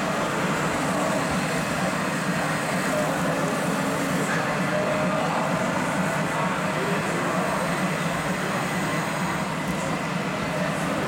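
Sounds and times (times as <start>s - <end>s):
murmur of voices: 0.0s - 11.0s
steady mechanical running noise: 0.0s - 11.0s.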